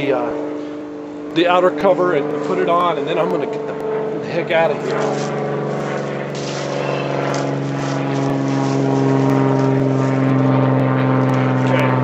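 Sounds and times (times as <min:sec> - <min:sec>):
steady engine hum: 0:00.0 - 0:12.0.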